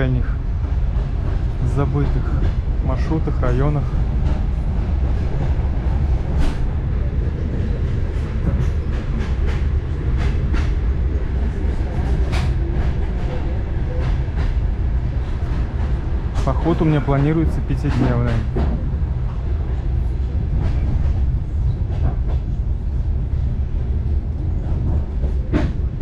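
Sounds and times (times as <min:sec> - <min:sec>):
train car rumbling: 0:00.0 - 0:26.0.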